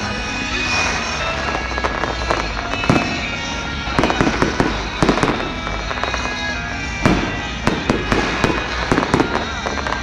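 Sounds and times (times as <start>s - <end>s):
fireworks exploding: 0.0s - 10.0s
music playing: 0.0s - 10.0s.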